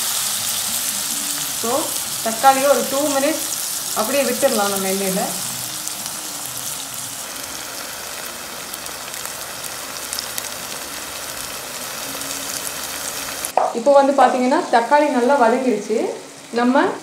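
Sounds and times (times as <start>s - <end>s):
vegetables frying in hot oil: 0.0s - 17.0s.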